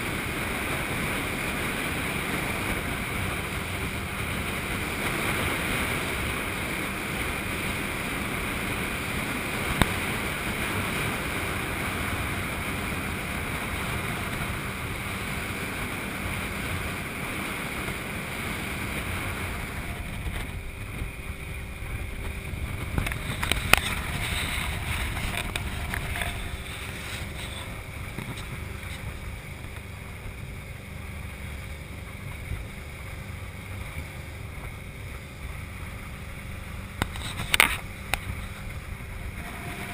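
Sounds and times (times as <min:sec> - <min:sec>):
wind and water noise: 0:00.0 - 0:39.9.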